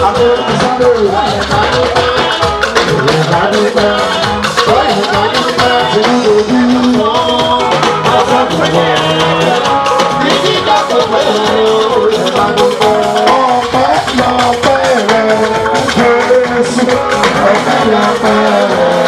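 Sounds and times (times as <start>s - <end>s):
upbeat music with shaker and drums: 0.0s - 19.0s.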